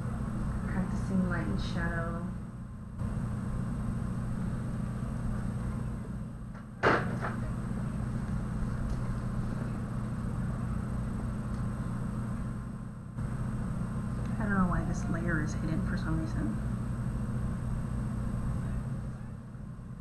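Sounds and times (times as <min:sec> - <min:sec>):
room noise hum and hiss: 0:00.0 - 0:20.0.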